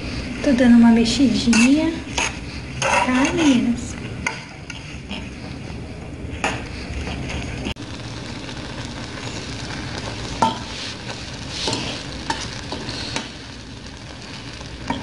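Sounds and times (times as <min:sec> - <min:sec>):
syrup sizzling and bubbling: 0:00.0 - 0:15.0.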